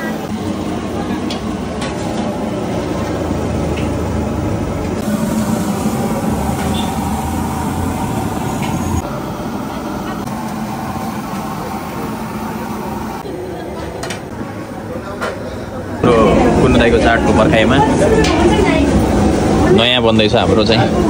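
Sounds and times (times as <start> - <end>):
stove hum: 0.0 - 21.0.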